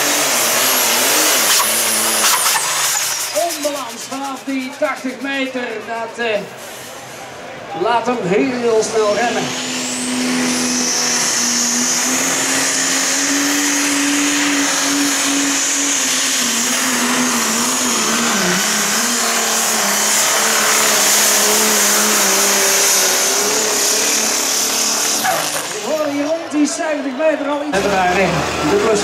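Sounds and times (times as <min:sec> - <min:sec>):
diesel engine under load: 0:00.0 - 0:29.0
high turbo whine: 0:00.0 - 0:29.0.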